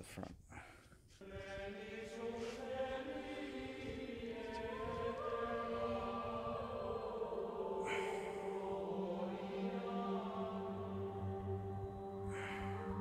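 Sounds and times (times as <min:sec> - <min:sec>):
choral voices chanting: 0:01.2 - 0:13.0.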